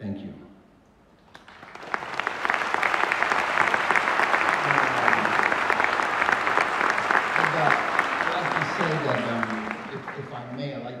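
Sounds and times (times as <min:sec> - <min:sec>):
crowd applause: 0:01.3 - 0:11.0.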